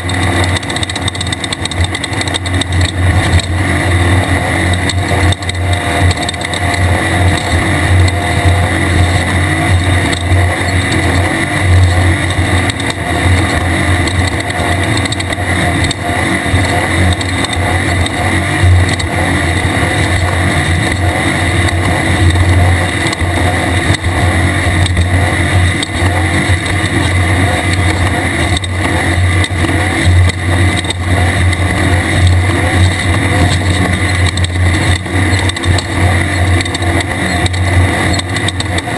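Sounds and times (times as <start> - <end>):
race car engine running hard: 0.0 - 38.9
road and wind noise: 0.0 - 38.9.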